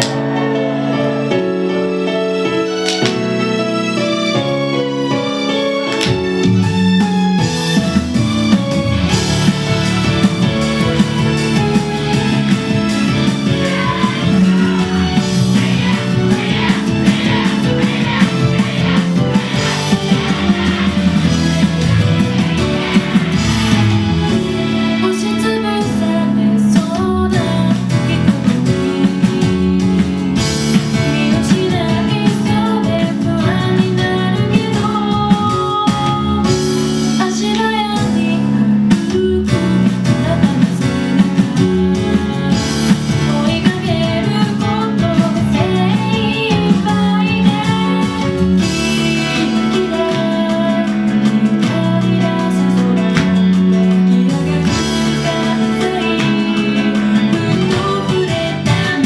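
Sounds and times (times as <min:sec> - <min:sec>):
pop song with singing and guitar: 0:09.0 - 0:59.0.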